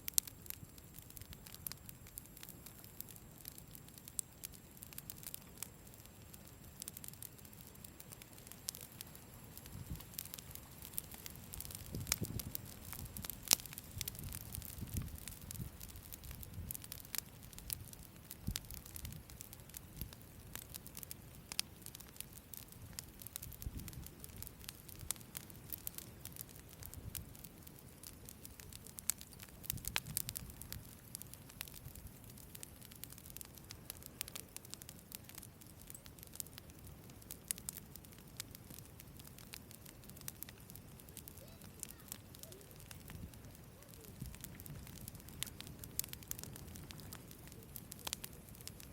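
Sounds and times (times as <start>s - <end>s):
campfire crackling: 0.0s - 48.9s
fire popping: 0.0s - 48.9s
low rumble of flames: 0.0s - 48.9s.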